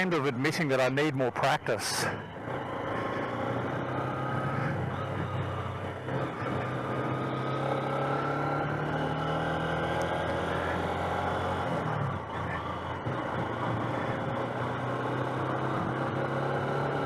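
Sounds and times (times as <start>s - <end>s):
motorcycle engine running: 2.0s - 17.0s.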